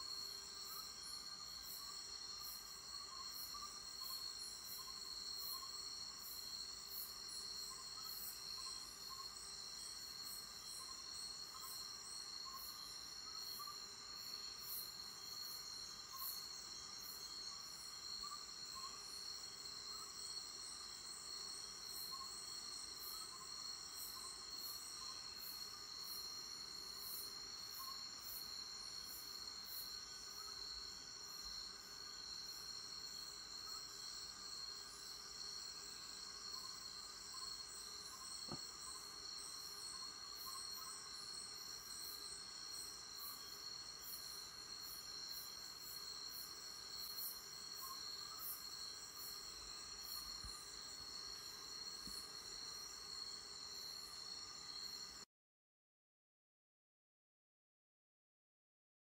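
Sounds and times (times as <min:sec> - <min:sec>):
insects trilling: 0:00.0 - 0:55.2
soft insect chirps: 0:00.0 - 0:55.2
pulsing high insect buzz: 0:00.0 - 0:55.3.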